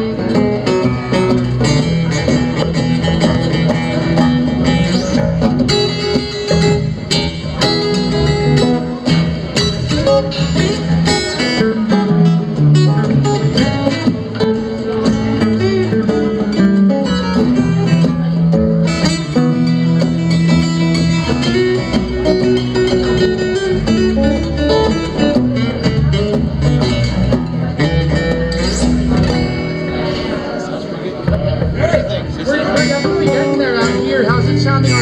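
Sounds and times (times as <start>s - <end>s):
electric guitar: 0.0s - 35.0s
live band playing blues: 0.0s - 35.0s.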